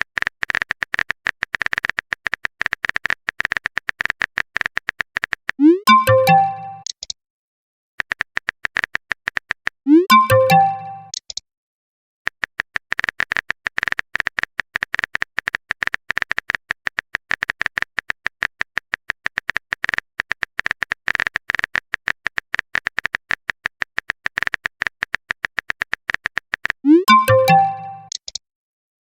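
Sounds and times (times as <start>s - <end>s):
keyboard typing clicks: 0.0s - 7.1s, 8.0s - 11.4s, 12.5s - 28.4s.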